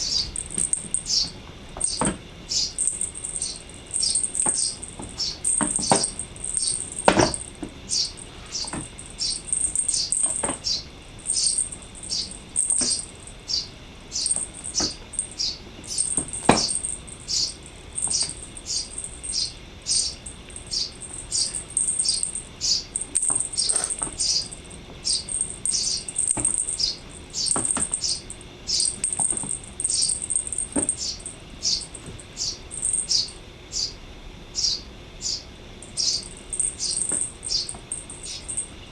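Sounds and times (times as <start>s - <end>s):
small birds chirping: 0.0s - 34.0s, 34.6s - 38.7s.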